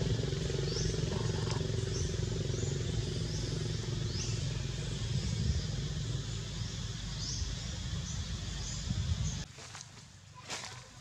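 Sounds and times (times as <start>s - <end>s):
low engine-like hum: 0.0s - 11.0s.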